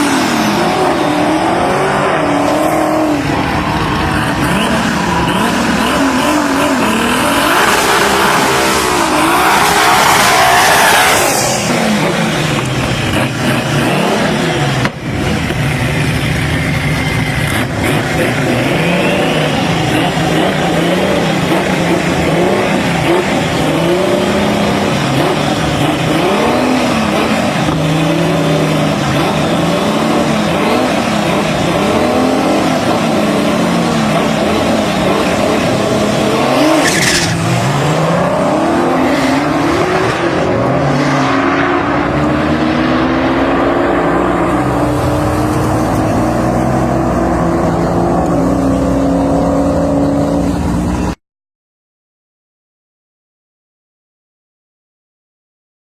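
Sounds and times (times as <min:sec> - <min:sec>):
car engine revving: 0:00.0 - 0:51.2.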